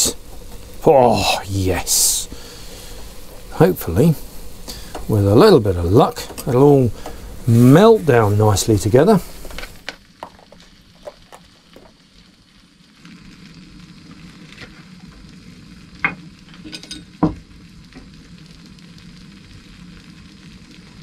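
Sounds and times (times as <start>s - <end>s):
pasta and cheese sizzling in a pan: 0.0s - 21.0s.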